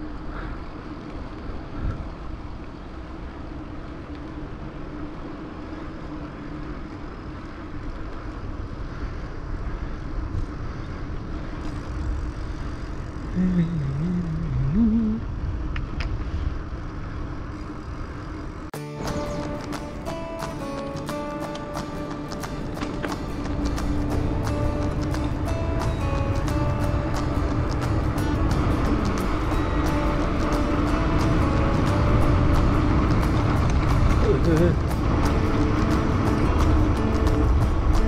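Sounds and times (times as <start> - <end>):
wind rushing over microphone: 0.0 - 20.2, 20.9 - 38.0
bicycle tyre and road noise: 0.0 - 38.0.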